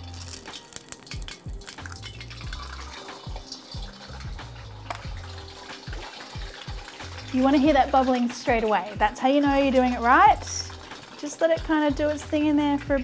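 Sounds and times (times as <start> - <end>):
egg frying in hot oil: 0.0 - 13.0.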